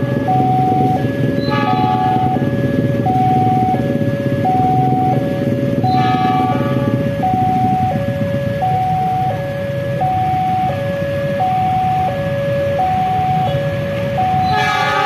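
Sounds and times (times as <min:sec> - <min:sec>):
diesel locomotive engine rumble: 0:00.0 - 0:15.0
two-tone railway warning alarm: 0:00.0 - 0:15.0.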